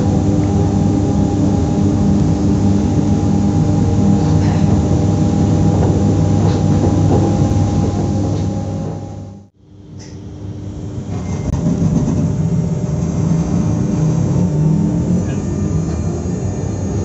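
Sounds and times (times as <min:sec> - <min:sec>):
train equipment humming: 0:00.0 - 0:17.0.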